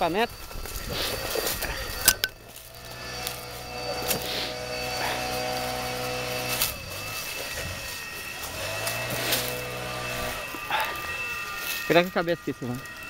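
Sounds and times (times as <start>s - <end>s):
leaf blower engine running: 0.0s - 13.0s.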